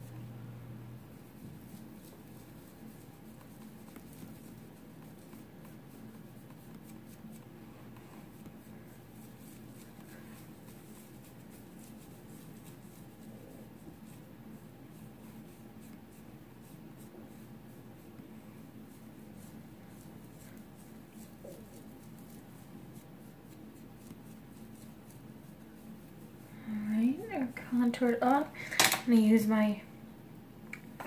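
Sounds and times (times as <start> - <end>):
steady low hum: 0.0 - 31.0
fingers rubbing makeup on skin: 1.0 - 28.5.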